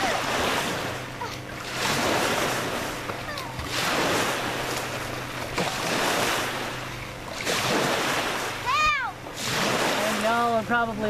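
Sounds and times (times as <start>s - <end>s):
lake water washing in swells: 0.0s - 11.0s.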